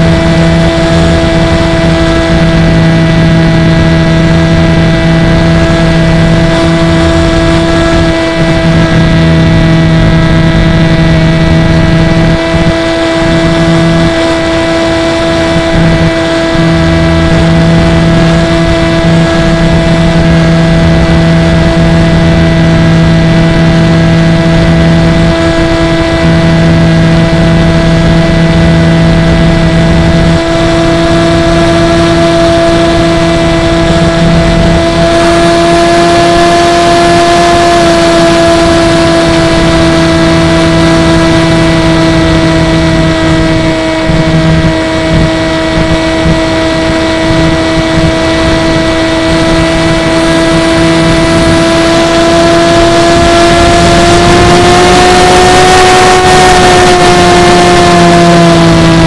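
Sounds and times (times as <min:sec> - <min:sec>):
drone motor whine: 0:00.0 - 0:59.0.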